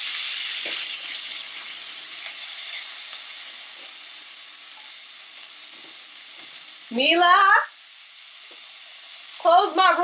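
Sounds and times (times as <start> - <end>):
onion sizzling in frying pan: 0.0 - 10.0.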